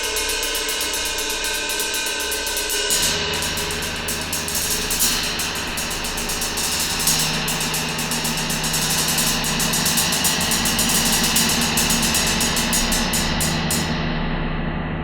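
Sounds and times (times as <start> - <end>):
gong mallet roll: 0.0 - 14.0
low hum: 0.0 - 14.0.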